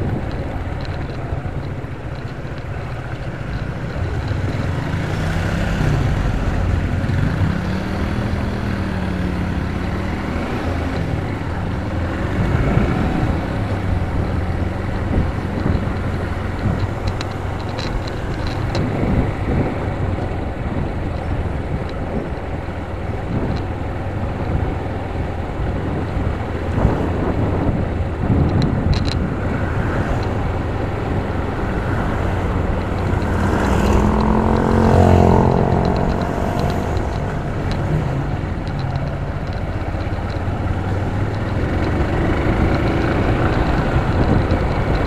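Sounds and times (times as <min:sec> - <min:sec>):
motorcycle engine running: 0:00.0 - 0:45.0
wind noise on microphone: 0:00.0 - 0:45.0.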